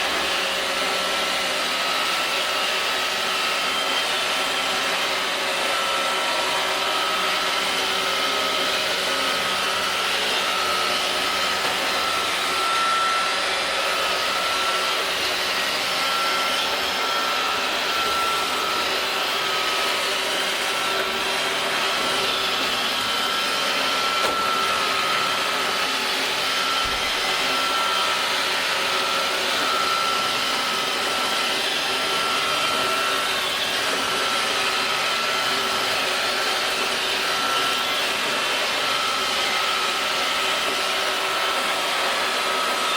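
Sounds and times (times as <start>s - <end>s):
robot vacuum cleaner running: 0.0s - 42.9s.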